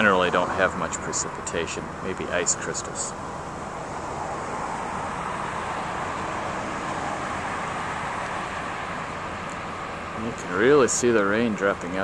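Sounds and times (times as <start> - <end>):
traffic tyres hissing: 0.0 - 12.0.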